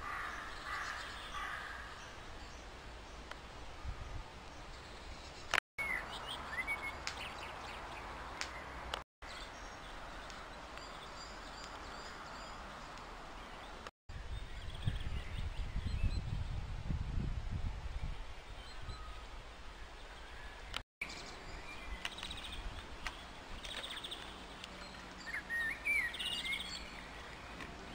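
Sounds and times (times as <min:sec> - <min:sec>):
songbirds chirping: 0:00.0 - 0:16.6, 0:17.9 - 0:27.9.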